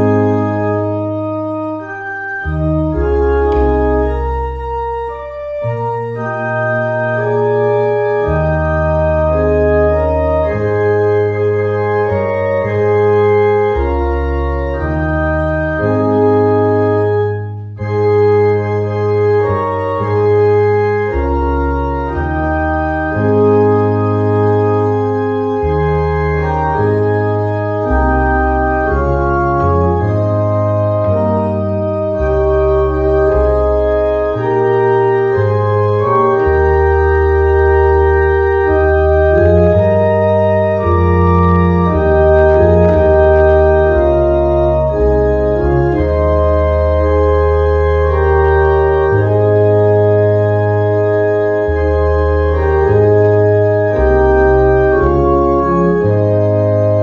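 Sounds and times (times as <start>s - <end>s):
electronic organ playing chords: 0.0s - 57.0s
organ pedal bass line: 0.0s - 57.0s.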